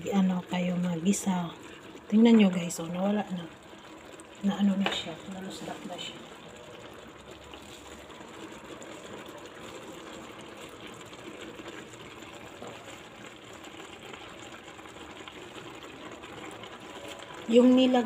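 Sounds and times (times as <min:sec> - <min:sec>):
sauce simmering in a pan: 0:00.0 - 0:18.0.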